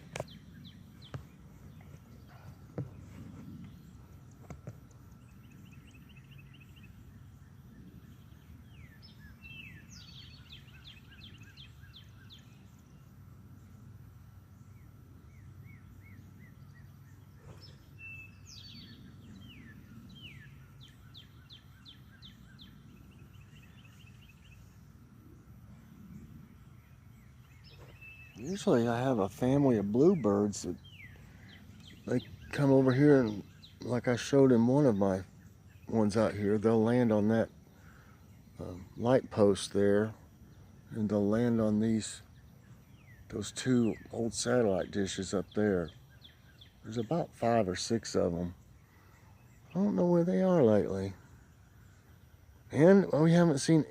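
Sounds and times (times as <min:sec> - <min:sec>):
low outdoor rumble: 0:00.0 - 0:53.9
songbirds chirping and trilling: 0:00.0 - 0:53.9.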